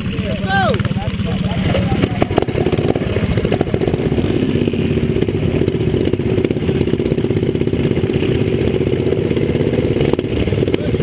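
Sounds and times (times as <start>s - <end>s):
small bike engines idling: 0.0s - 11.0s.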